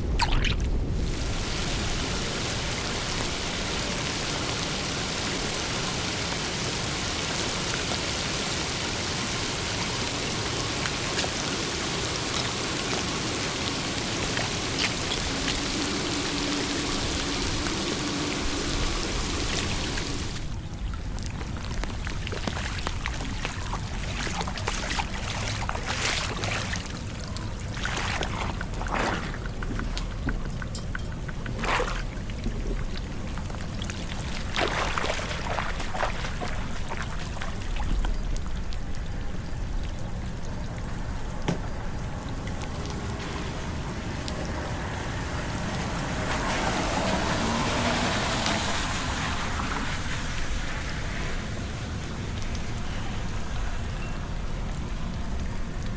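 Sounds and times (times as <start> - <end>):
steady rain: 0.0 - 55.9
water pouring and trickling: 0.0 - 55.9
water splashes: 0.0 - 55.9.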